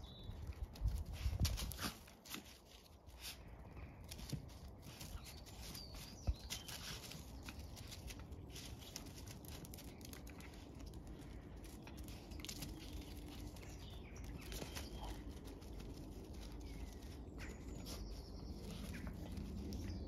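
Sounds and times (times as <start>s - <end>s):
footsteps and paws on grass: 0.1s - 20.0s.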